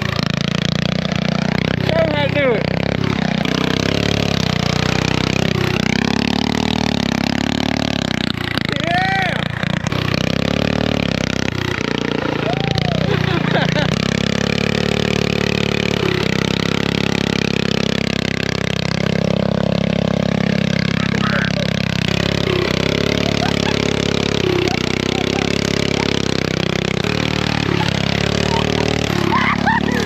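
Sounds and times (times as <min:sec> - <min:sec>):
engine running under varying load: 0:00.0 - 0:30.0.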